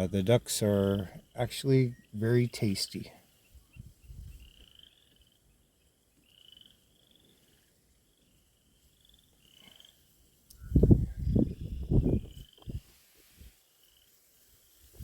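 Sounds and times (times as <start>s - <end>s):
frogs trilling faintly: 0.0s - 15.0s.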